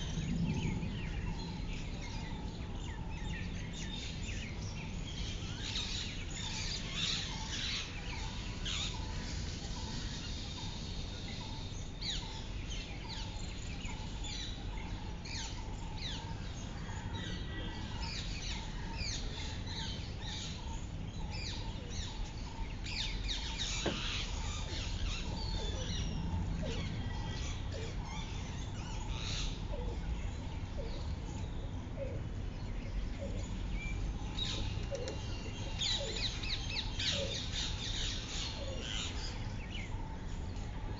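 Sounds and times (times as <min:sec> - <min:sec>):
low background rumble: 0:00.0 - 0:40.9
small birds chirping: 0:00.0 - 0:40.9.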